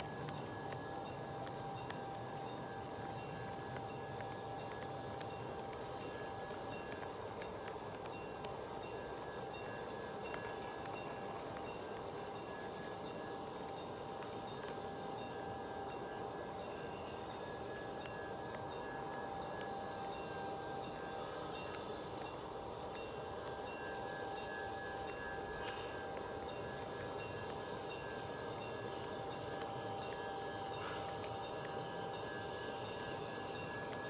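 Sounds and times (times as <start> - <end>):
high whine: 0.0 - 34.0.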